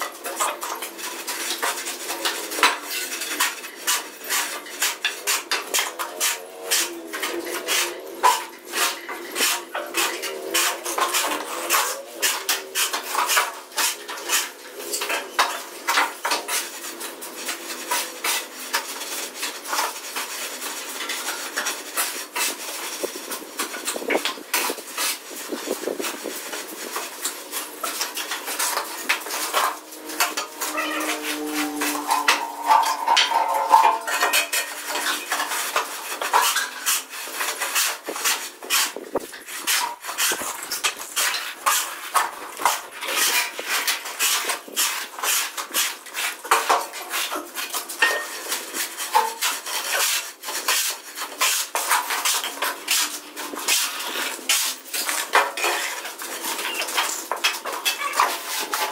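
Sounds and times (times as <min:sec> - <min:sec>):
trowel scraping wet cement: 0:00.0 - 0:58.9.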